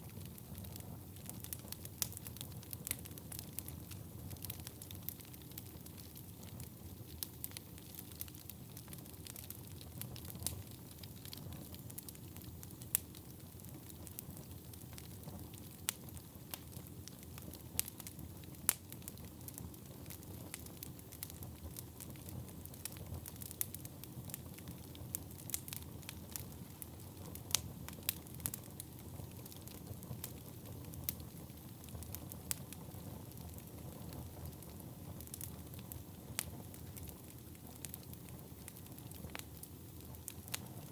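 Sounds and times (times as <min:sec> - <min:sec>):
flames rumbling: 0:00.0 - 0:40.9
wood fire crackling: 0:00.0 - 0:40.9.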